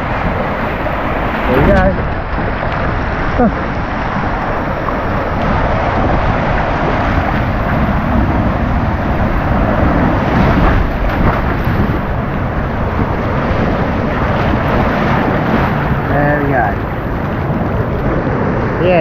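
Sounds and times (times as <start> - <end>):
rushing water: 0.0 - 19.0
wind buffeting camera: 0.0 - 19.0.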